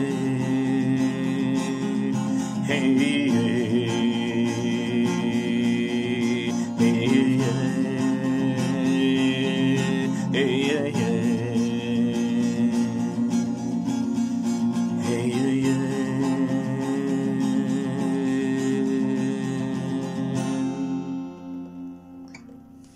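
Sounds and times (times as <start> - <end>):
man singing with vibrato: 0.0 - 22.0
acoustic guitar chords: 0.0 - 22.9.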